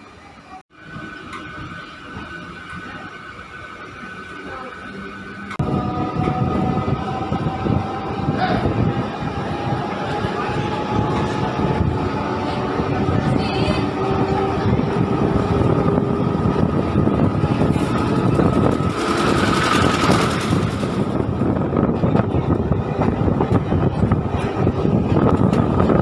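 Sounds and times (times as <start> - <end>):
electric train wheels rumbling on rails: 0.0 - 26.0.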